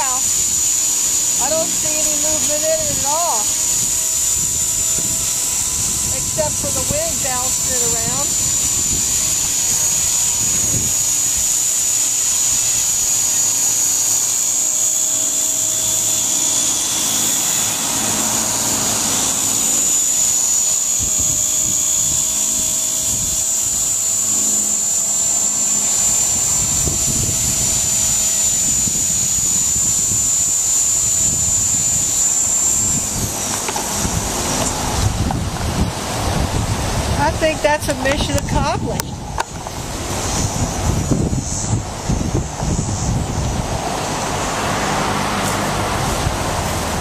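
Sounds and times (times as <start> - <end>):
rc helicopter motor whine: 0.0 - 47.0
wind rumble on microphone: 0.0 - 47.0.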